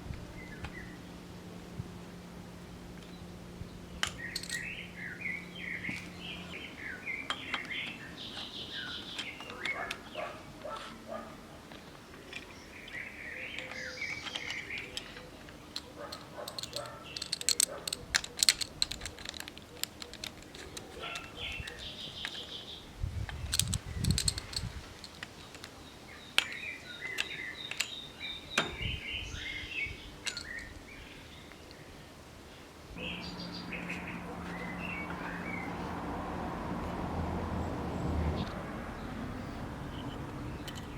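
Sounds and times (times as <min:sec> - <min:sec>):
small birds chirping: 0:02.9 - 0:36.0, 0:37.6 - 0:40.9.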